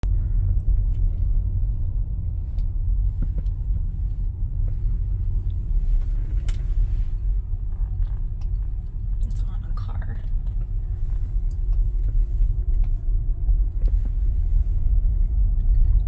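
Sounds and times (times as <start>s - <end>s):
car low rumble: 0.0s - 16.0s.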